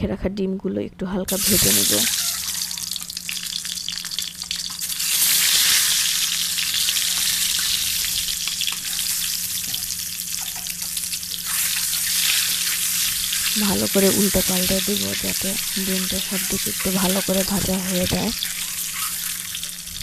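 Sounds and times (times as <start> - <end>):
low steady hum: 0.0 - 20.0
eggs sizzling in hot oil: 1.3 - 20.0.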